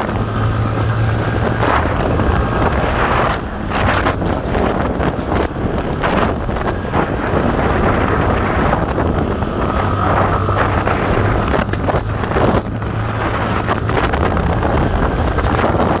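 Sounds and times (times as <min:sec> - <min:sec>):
steady low hum: 0:00.0 - 0:16.0
wind buffeting microphone: 0:00.0 - 0:16.0.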